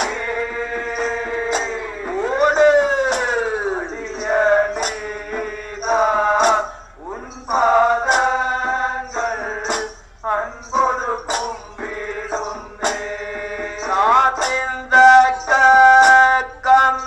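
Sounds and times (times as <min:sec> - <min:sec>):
bright percussion strikes: 0:00.0 - 0:16.4
men singing a chant: 0:00.0 - 0:17.0.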